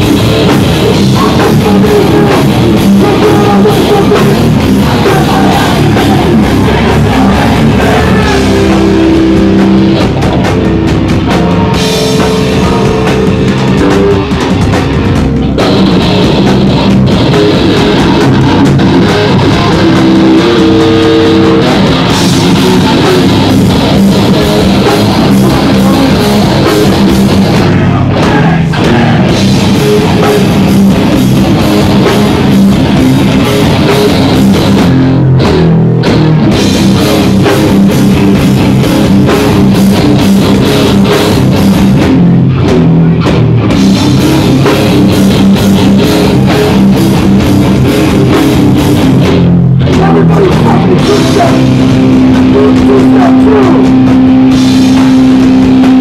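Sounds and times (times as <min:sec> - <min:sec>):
distorted electric guitars and bass: 0:00.0 - 0:56.0
pounding drum kit: 0:00.0 - 0:56.0.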